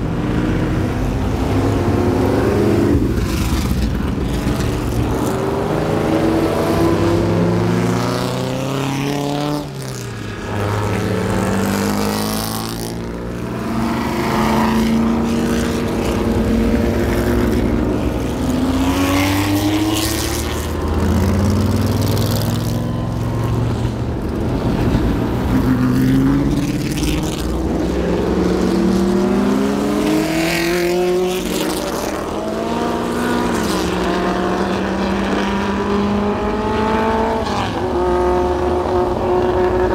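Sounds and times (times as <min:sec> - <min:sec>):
race car engines accelerating past: 0:00.0 - 0:39.9.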